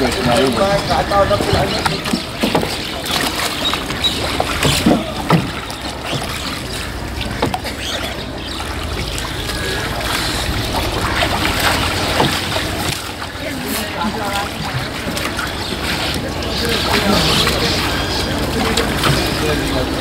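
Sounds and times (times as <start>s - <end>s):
oars dipping into water: 0.0s - 20.0s
oars knocking against boat: 0.0s - 20.0s.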